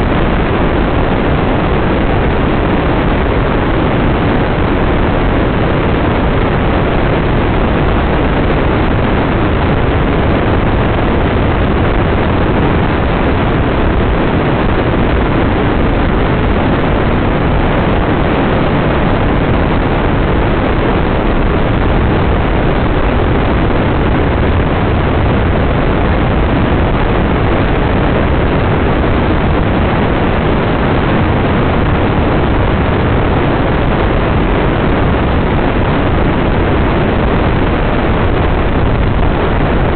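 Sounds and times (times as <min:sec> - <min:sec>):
dune buggy engine and wind: 0:00.0 - 0:39.9.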